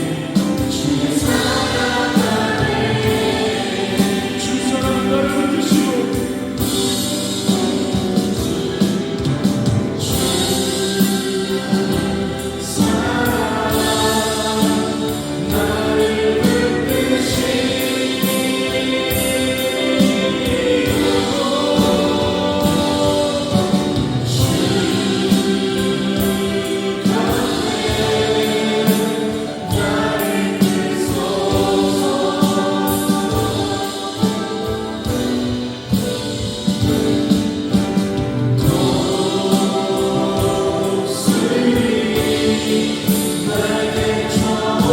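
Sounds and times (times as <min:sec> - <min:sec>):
group singing long notes: 0:00.0 - 0:44.9.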